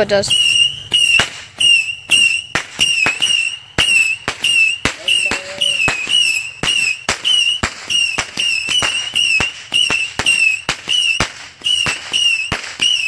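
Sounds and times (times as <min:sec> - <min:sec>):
firework cracks with whistles: 0:00.0 - 0:13.0.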